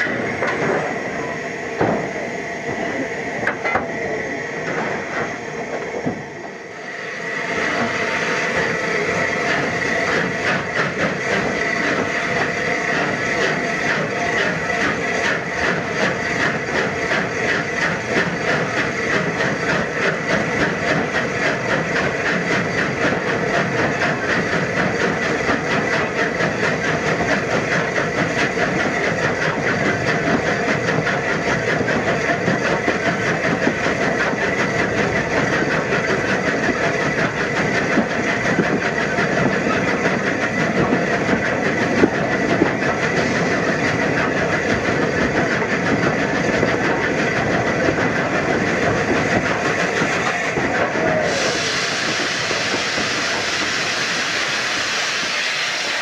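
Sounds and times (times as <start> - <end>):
steam hissing: 0.0 - 56.0
steam locomotive chugging: 0.0 - 56.0.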